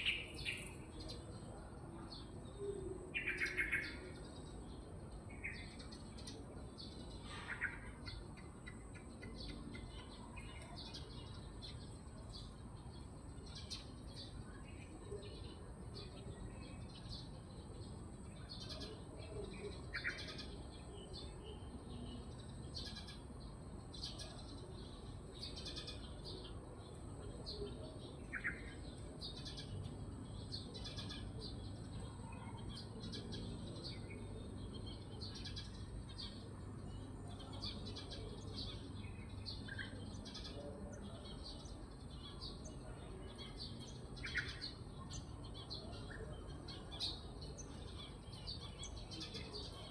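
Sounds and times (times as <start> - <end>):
birds chirping: 0.0 - 1.5, 2.1 - 49.9.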